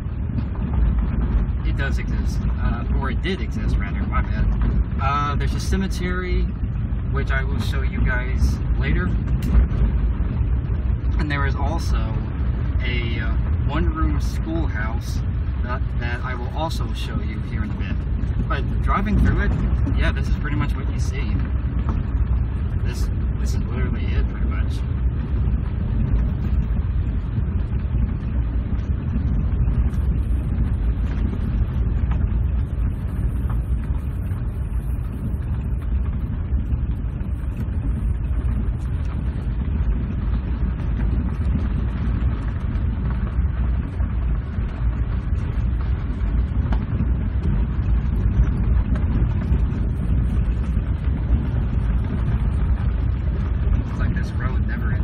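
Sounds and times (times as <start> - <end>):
vehicle rumbling over gravel road: 0.0 - 55.0.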